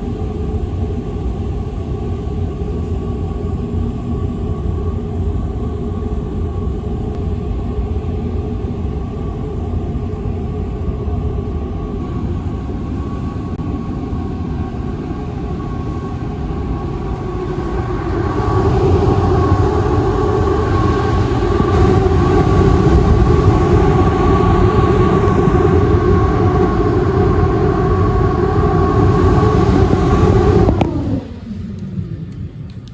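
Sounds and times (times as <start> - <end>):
air conditioner hum and whine: 0.0 - 32.9.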